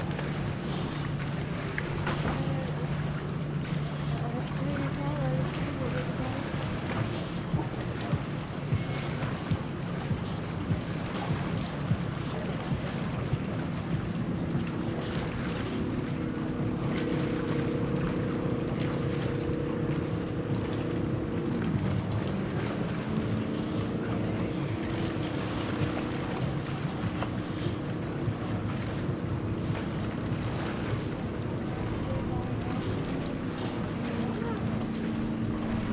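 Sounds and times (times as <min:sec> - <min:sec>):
jet ski engine running: 0:00.0 - 0:35.9
wind buffeting microphone: 0:00.0 - 0:35.9.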